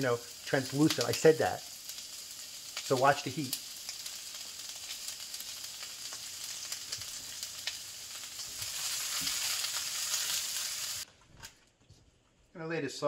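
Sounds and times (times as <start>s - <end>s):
onions sizzling in oil: 0.0s - 11.1s.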